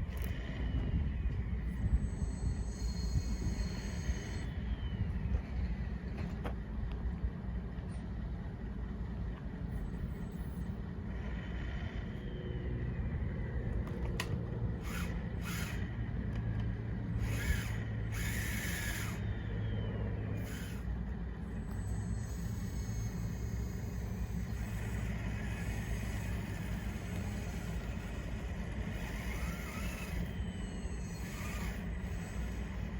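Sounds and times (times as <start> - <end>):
motor whine gliding down: 0.0 - 6.6, 11.2 - 32.9
low mechanical hum: 0.0 - 32.9.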